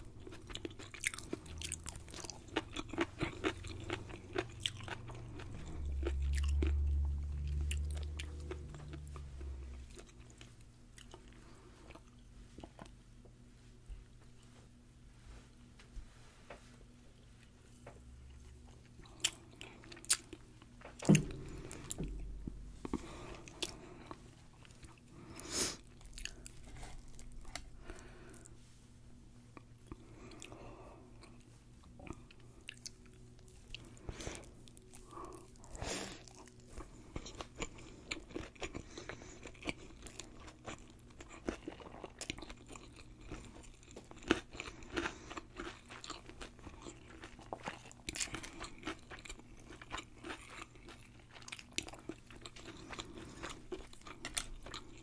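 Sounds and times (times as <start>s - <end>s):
crunchy fried food chewing: 0.0s - 13.0s, 17.4s - 28.6s, 29.5s - 55.0s.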